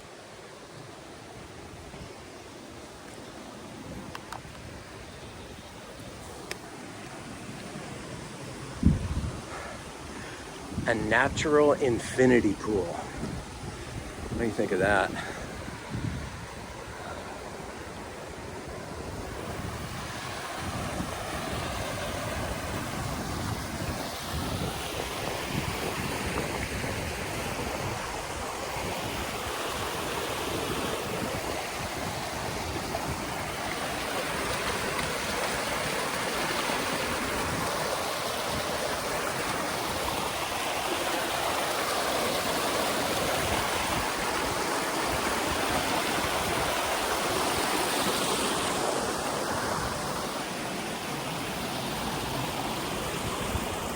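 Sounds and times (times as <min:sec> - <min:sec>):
waterfall stream rushing: 0:00.0 - 0:53.9.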